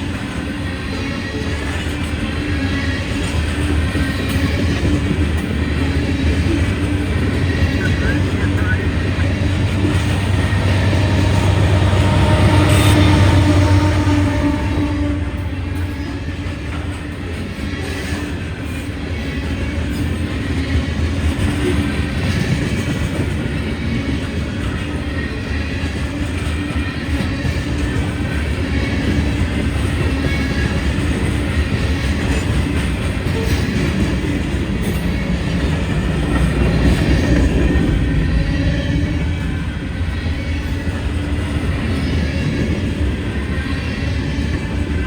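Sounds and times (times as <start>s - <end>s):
train rumbling past: 0.0s - 45.0s.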